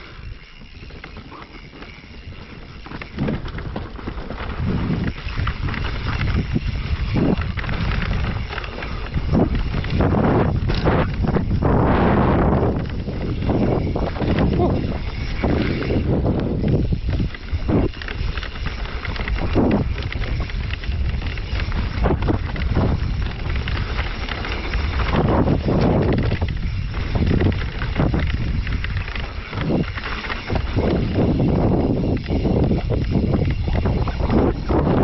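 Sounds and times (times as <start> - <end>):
bike knocking and rattling: 0.0 - 35.0
bike tyres rolling over dirt: 0.0 - 35.0
wind buffeting microphone: 0.0 - 35.0.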